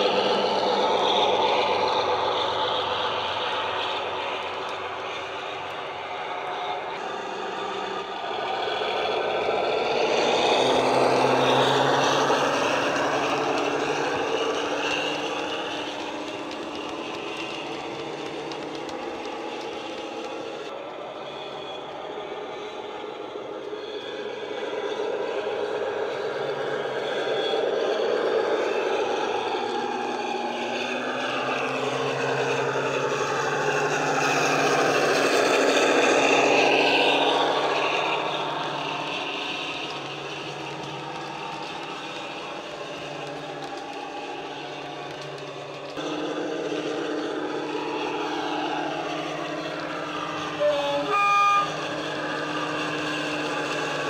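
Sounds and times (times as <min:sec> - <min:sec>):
diesel locomotive engine hum: 0:00.0 - 0:54.0.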